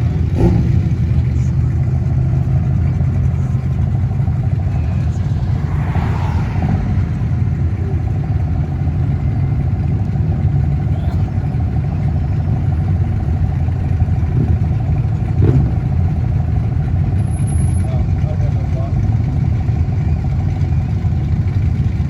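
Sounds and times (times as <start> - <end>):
car engines rumbling past: 0.0 - 22.0.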